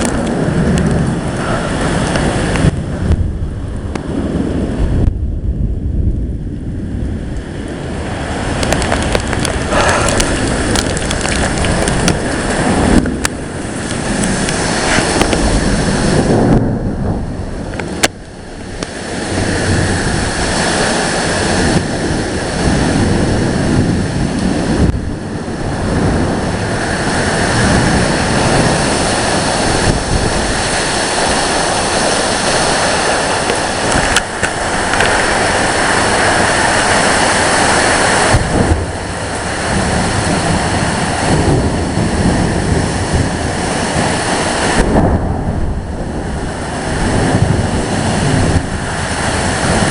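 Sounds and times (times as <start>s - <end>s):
storm wind buffeting microphone: 0.0s - 49.9s.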